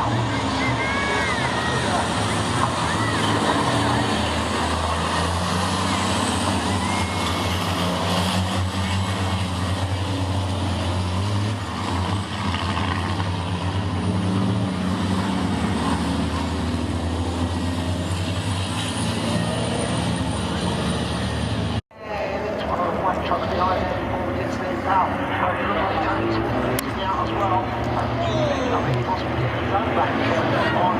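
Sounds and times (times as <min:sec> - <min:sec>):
truck diesel engines droning: 0:00.0 - 0:30.9.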